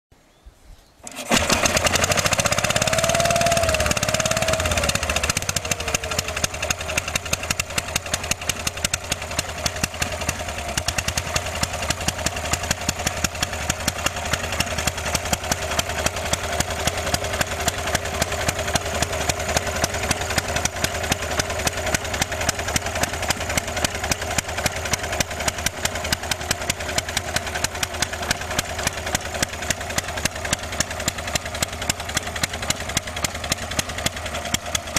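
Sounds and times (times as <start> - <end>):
small tractor engine idling: 1.0 - 34.9.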